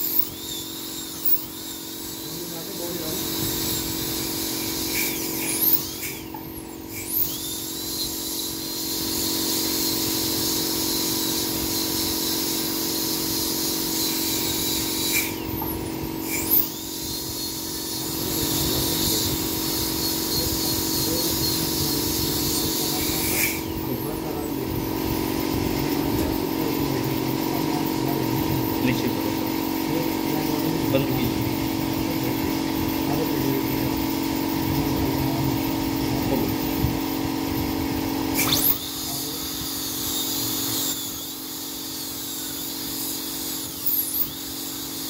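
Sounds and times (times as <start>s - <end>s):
dental drill whining: 0.0s - 45.0s.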